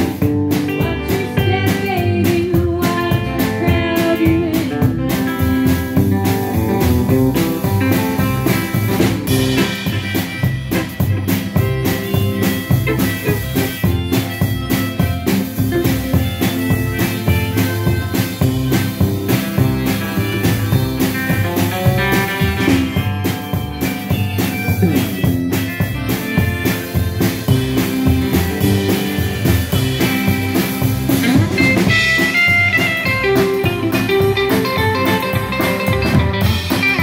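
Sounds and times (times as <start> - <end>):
drums: 0.0 - 37.0
harmonica lead: 0.0 - 37.0
plucked upright bass: 0.0 - 37.0
strummed acoustic guitar: 0.0 - 37.0.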